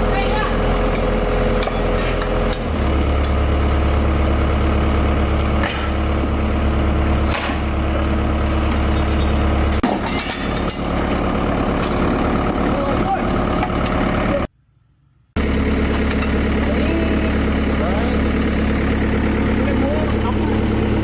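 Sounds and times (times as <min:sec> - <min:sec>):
heavy engine running: 0:00.0 - 0:14.5, 0:15.4 - 0:21.0.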